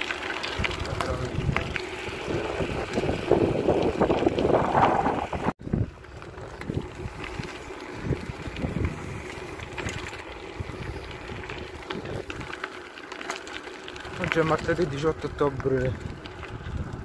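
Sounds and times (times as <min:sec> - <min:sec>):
wind buffeting microphone: 0:00.5 - 0:12.6, 0:14.0 - 0:17.0.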